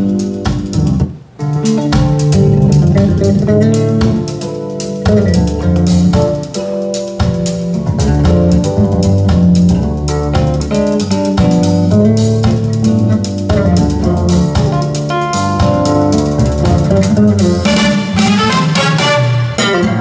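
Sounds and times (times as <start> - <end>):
band music over loudspeakers: 0.0 - 20.0.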